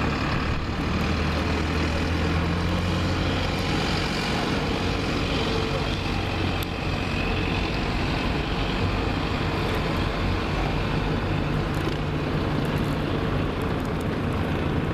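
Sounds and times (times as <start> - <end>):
constant rushing noise: 0.0 - 14.9
engine running steadily: 0.0 - 14.9.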